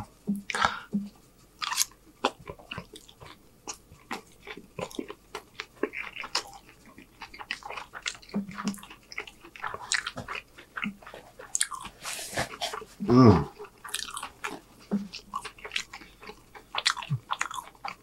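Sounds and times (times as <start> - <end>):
mouth clicks and smacks: 0.0 - 18.0
person chewing food: 0.0 - 18.0.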